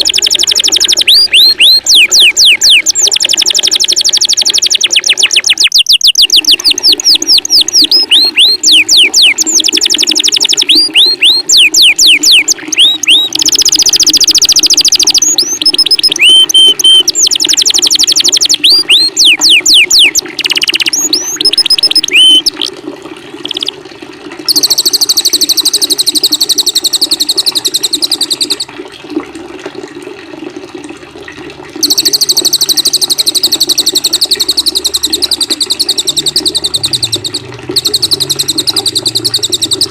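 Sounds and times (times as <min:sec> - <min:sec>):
buzzy high bird trill: 0:00.0 - 0:22.7, 0:23.4 - 0:23.7, 0:24.5 - 0:28.7, 0:31.8 - 0:39.9
songbirds singing whistled notes: 0:00.0 - 0:22.7, 0:23.4 - 0:23.7, 0:24.5 - 0:28.7, 0:31.8 - 0:39.9
steady water sound: 0:00.0 - 0:39.9.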